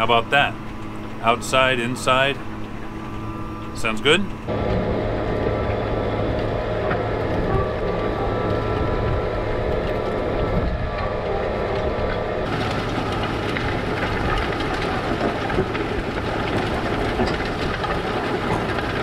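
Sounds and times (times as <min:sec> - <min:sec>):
tractor engine drone: 0:00.0 - 0:19.0.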